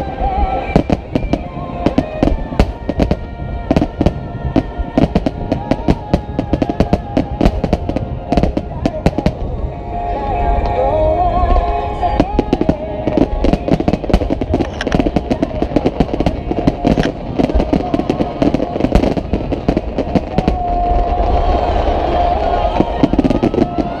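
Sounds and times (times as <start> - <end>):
fireworks crackling and popping: 0.0 - 10.8, 11.4 - 24.0
steady low rumble: 0.0 - 24.0.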